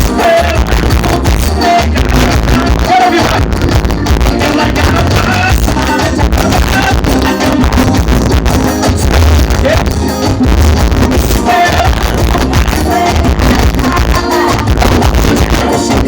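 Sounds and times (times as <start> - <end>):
band music with heavy bass: 0.0 - 16.0.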